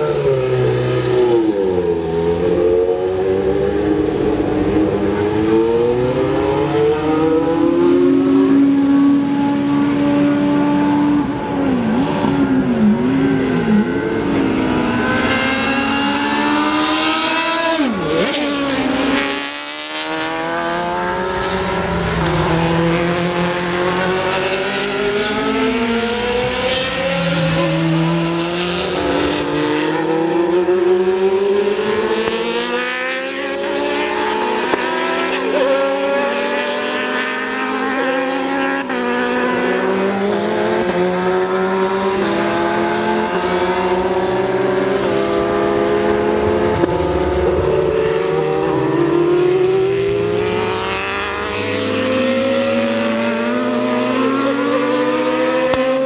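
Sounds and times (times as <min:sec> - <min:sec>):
racing car engines revving: 0:00.0 - 0:56.0
racing car passing by: 0:00.0 - 0:56.0.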